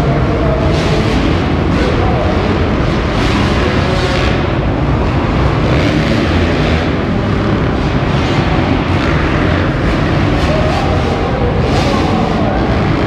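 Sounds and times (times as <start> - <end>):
dirt bike engines racing: 0.0 - 13.0.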